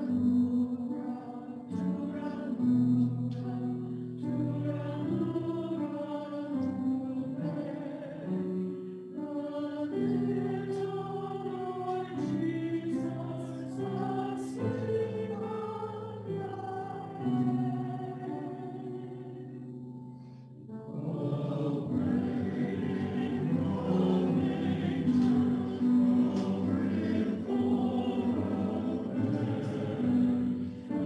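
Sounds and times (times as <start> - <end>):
mixed choir singing a hymn: 0.0 - 31.0.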